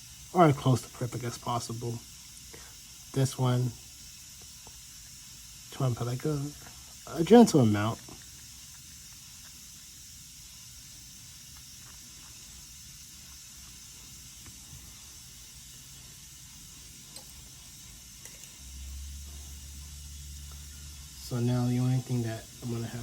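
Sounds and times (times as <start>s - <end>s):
high background hiss: 0.0s - 23.0s.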